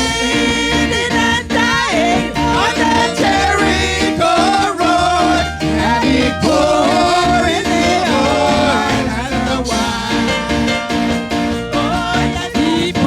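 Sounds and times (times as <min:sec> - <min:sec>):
live gospel church band: 0:00.0 - 0:13.0.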